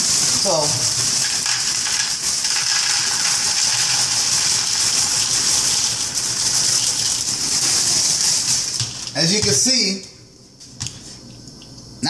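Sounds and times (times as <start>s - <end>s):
cereal bag crinkling: 0.0s - 10.0s.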